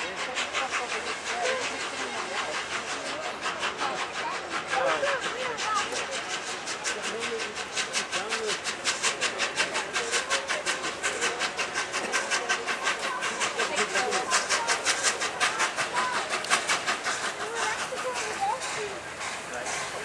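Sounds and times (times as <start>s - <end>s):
steam locomotive exhaust chuffing: 0.0s - 20.0s.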